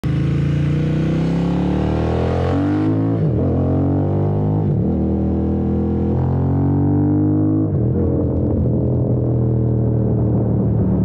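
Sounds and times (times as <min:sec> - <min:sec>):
motorcycle engine droning exhaust: 0:00.0 - 0:11.0.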